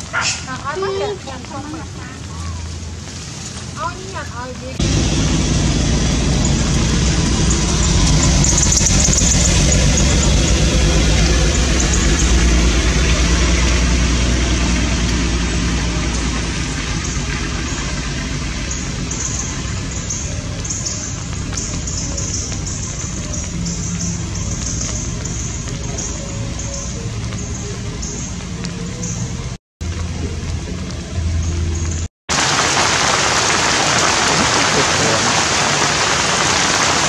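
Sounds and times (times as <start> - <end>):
engine humming: 0.0 - 37.0.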